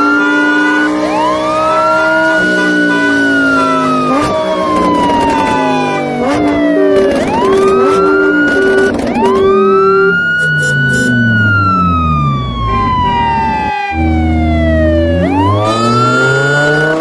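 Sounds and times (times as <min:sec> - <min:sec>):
siren-like synth wail: 0:00.0 - 0:17.0.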